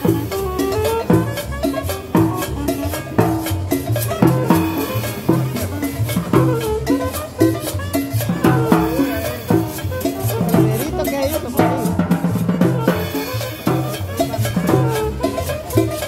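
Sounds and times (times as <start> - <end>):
double bass: 0.0 - 16.0
drums: 0.0 - 16.0
live band playing dance music: 0.0 - 16.0
saxophone: 0.0 - 16.0.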